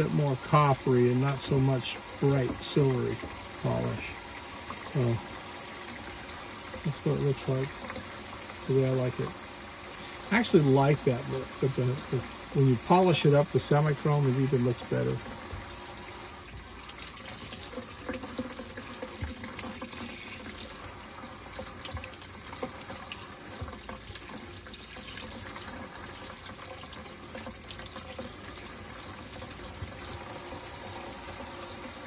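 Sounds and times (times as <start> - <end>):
tap water running into sink: 0.0 - 32.0.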